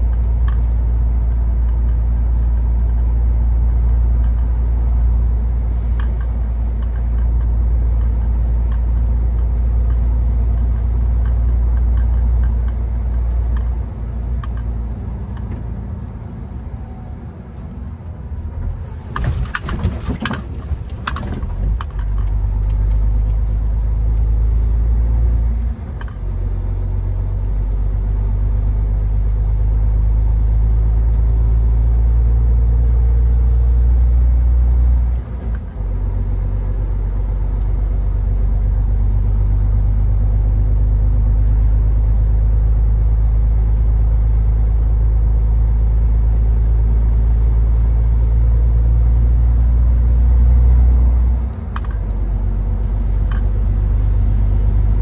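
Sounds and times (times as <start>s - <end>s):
road noise on snow: 0.0s - 55.0s
truck engine rumble: 0.0s - 55.0s.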